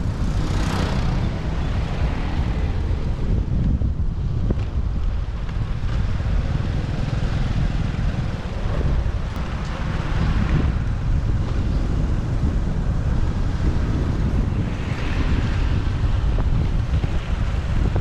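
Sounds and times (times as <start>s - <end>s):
motorbike ride rumble: 0.0s - 18.0s
street traffic: 0.0s - 18.0s
wind buffeting microphone: 0.0s - 18.0s.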